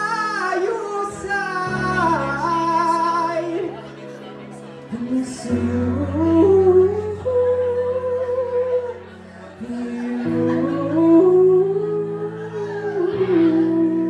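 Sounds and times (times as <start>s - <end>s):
sustained backing chords: 0.0s - 14.0s.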